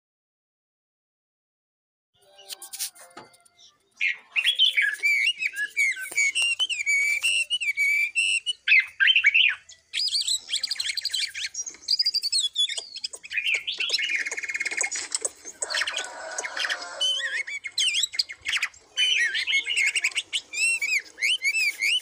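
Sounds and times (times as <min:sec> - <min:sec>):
songbird singing: 0:02.2 - 0:22.0.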